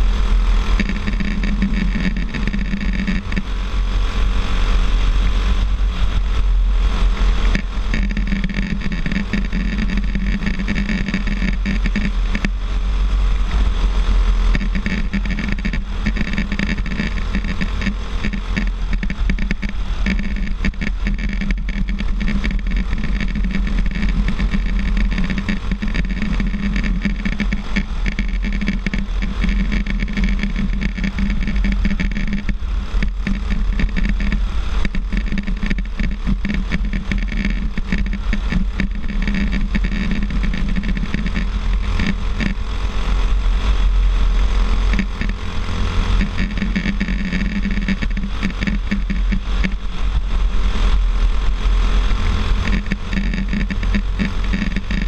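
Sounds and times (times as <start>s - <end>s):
kart engine running hard: 0.0s - 55.0s
wind buffeting on microphone: 0.0s - 55.0s.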